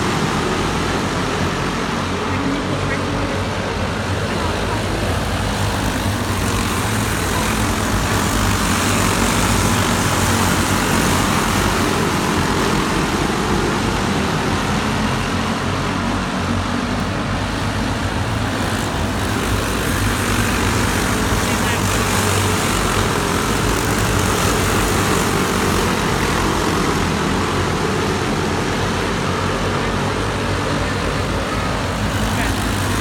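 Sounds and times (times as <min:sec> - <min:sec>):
go-kart engines racing: 0:00.0 - 0:33.0.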